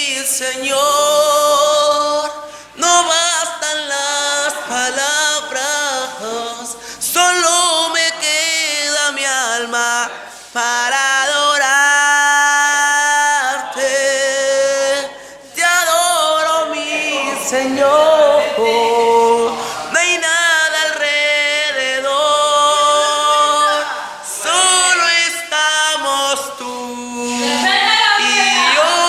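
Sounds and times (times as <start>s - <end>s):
man singing: 0.0s - 29.0s.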